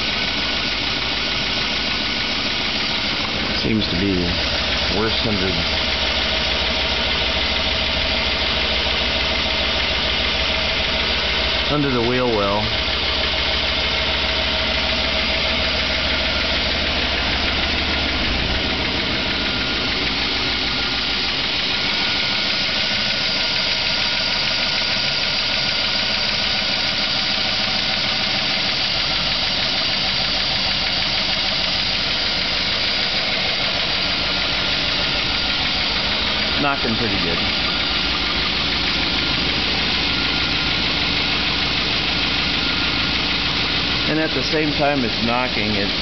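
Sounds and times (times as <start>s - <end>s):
engine idling: 0.0s - 46.0s
engine knocking: 0.0s - 46.0s.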